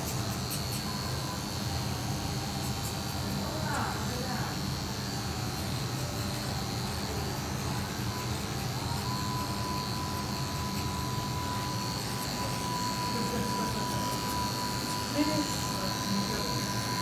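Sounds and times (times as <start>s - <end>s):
electric clippers buzzing: 0.0s - 17.0s
thin high whine: 0.0s - 17.0s.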